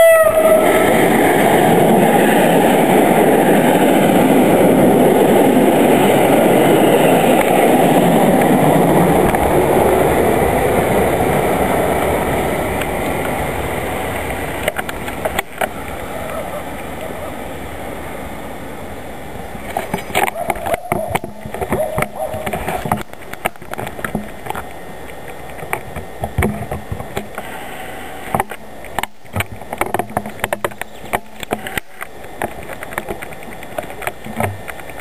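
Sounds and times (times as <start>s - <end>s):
train wheels rushing on rail: 0.0s - 35.0s.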